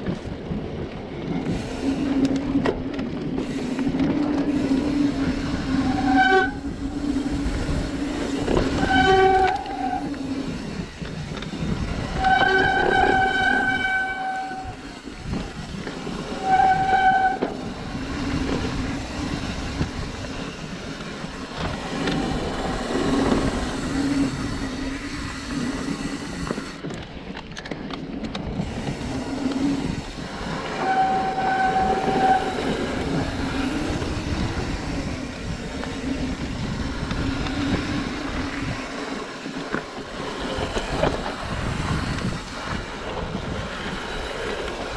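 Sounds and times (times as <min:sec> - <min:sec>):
bike tyres rumbling on dirt: 0:00.0 - 0:44.9
brakes squealing: 0:03.3 - 0:26.8, 0:28.6 - 0:42.8.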